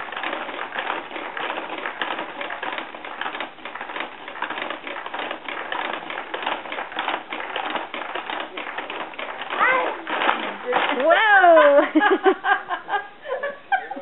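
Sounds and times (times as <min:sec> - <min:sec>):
plastic baby jumper clattering: 0:00.0 - 0:11.8.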